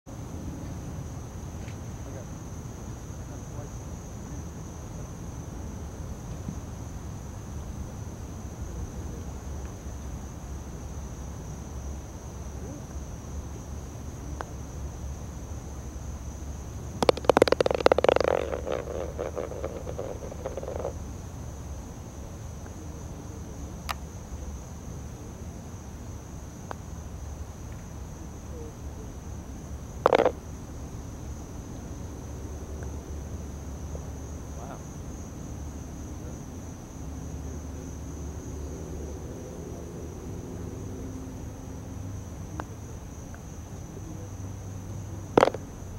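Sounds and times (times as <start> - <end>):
insects trilling: 0.1 - 45.9
low outdoor rumble: 0.1 - 45.9.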